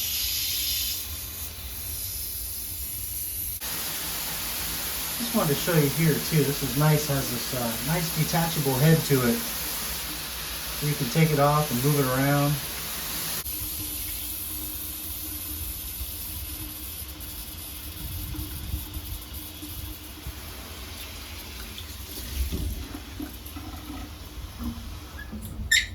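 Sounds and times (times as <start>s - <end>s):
shower head spraying water: 0.0s - 23.6s.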